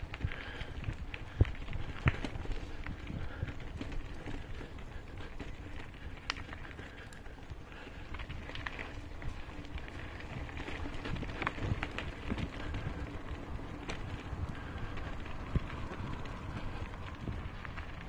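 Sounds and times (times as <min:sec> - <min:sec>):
bicycle tyre rumble on dirt: 0:00.0 - 0:18.0
wind buffeting microphone: 0:00.0 - 0:18.0
bike rattles and knocks: 0:00.1 - 0:18.0.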